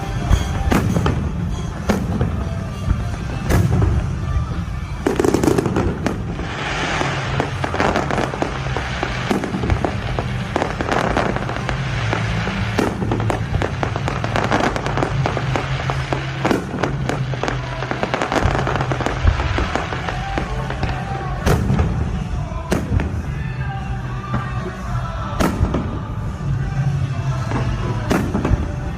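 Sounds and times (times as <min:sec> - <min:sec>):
fireworks bangs and crackling: 0:00.0 - 0:28.9
music playing: 0:00.0 - 0:28.9.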